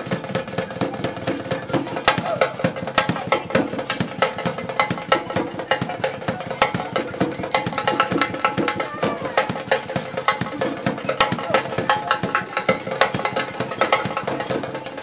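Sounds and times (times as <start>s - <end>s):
music with busy percussion: 0.0s - 15.0s.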